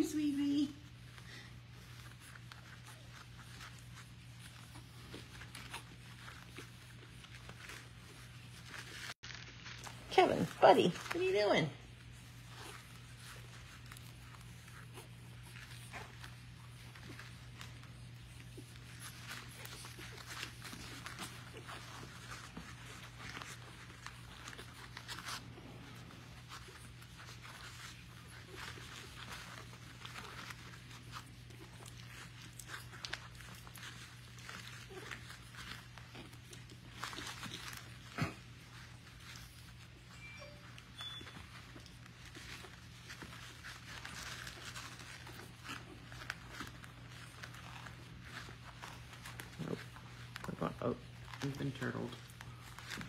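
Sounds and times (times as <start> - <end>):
puppies rustling on bedding: 0.0 - 53.0.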